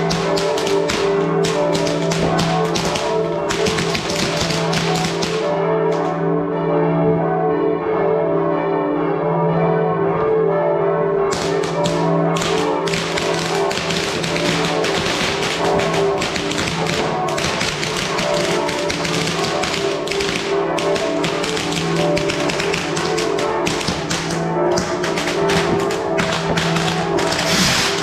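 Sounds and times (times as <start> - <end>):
fireworks crackling and popping: 0.0 - 6.1, 11.4 - 28.0
church bells pealing: 0.0 - 28.0.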